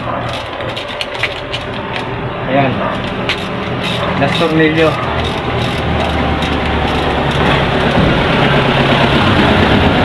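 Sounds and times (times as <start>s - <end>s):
vehicle engine low rumble: 0.0s - 10.0s.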